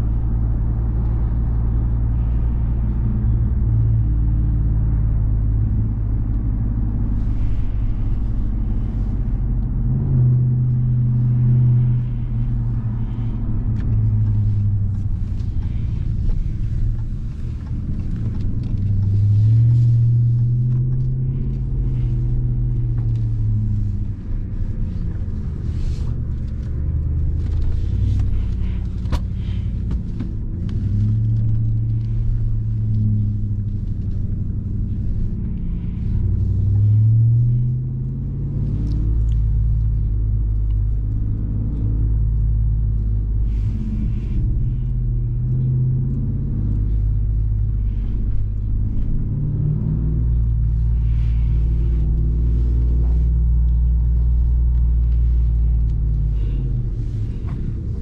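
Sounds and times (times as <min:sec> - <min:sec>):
truck engine accelerating: 0:00.0 - 0:58.0.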